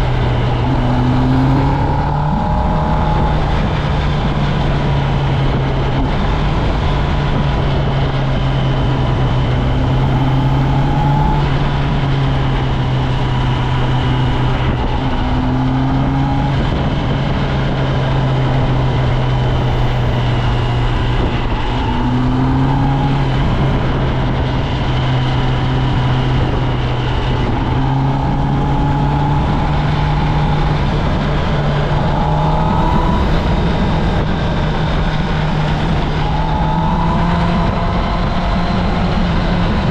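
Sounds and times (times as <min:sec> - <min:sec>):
motorcycle engine running: 0:00.0 - 0:39.9
rushing noise: 0:00.0 - 0:39.9.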